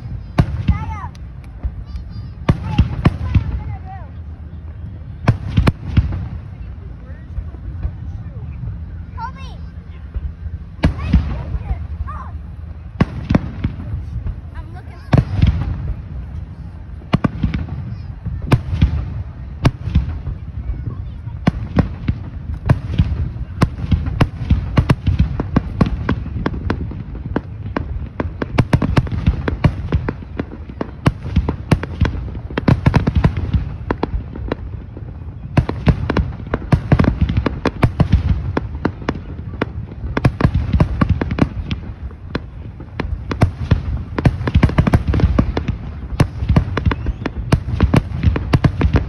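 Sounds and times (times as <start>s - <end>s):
continuous low rumble: 0.0s - 49.0s
fireworks bangs and crackling: 0.0s - 49.0s.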